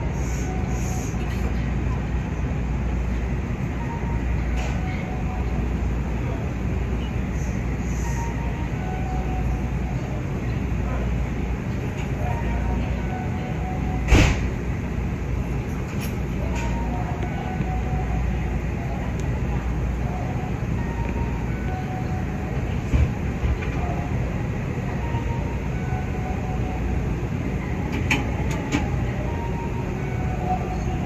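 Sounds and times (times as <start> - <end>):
train equipment humming: 0.0 - 31.0.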